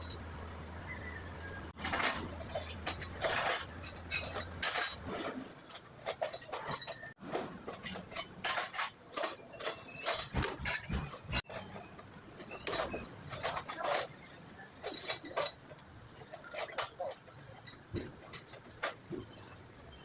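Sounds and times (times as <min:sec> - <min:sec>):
metal tools clinking: 0:01.8 - 0:20.0.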